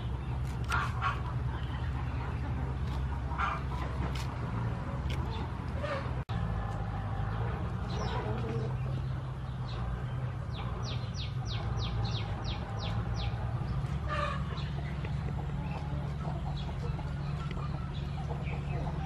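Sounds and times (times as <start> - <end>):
birds calling: 0.0 - 19.0
steady low hum: 0.0 - 19.0.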